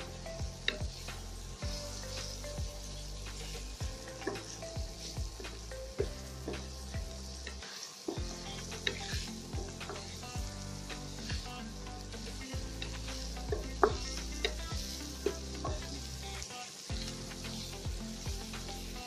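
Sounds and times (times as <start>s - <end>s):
vegetables sizzling in oil: 0.0s - 19.0s
wooden spatula scraping a wok: 0.6s - 16.2s.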